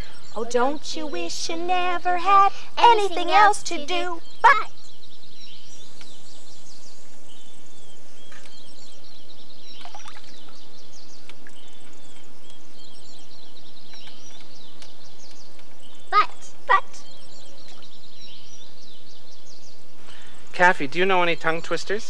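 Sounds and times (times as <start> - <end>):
background hiss: 0.0 - 22.0
birds chirping: 0.0 - 22.0.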